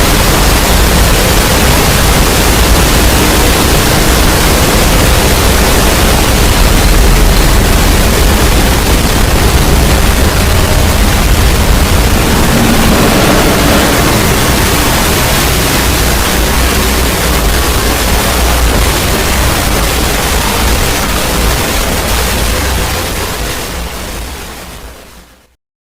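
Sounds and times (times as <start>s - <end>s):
heavy low rumble: 0.0s - 24.4s
loud steady hiss: 0.0s - 25.6s.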